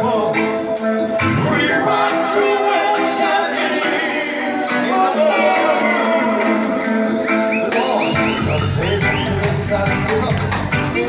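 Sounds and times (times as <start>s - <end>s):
person singing: 0.0s - 11.0s
reggae band playing: 0.0s - 11.0s.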